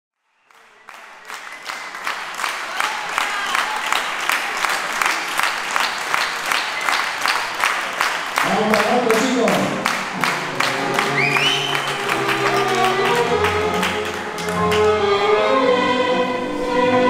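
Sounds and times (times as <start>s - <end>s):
audience applauding: 0.4s - 15.3s
rhythmic clapping: 0.5s - 15.2s.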